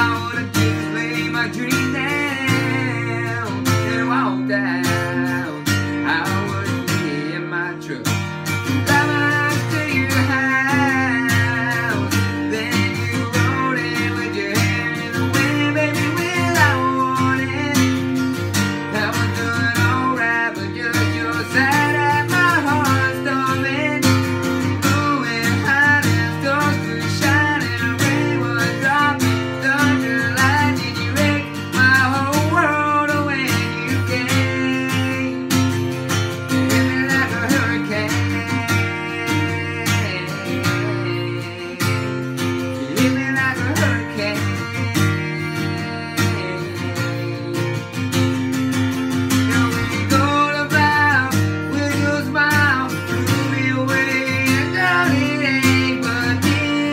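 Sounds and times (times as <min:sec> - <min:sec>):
man singing: 0:00.0 - 0:56.9
strummed acoustic guitar: 0:00.0 - 0:56.9.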